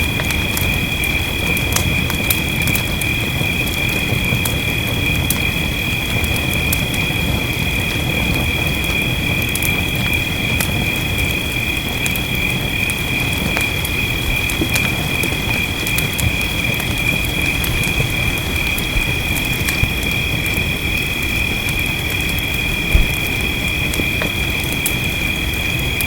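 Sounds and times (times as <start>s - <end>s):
rain hissing: 0.0s - 26.0s
wood fire crackling and popping: 0.0s - 26.0s.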